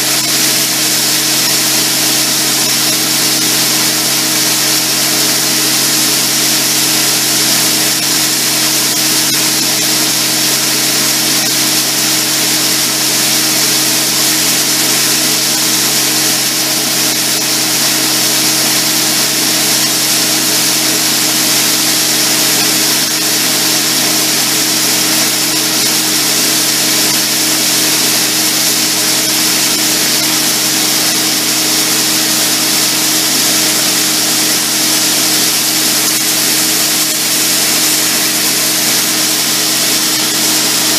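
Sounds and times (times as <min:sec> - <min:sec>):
heavy machinery drone: 0:00.0 - 0:40.9.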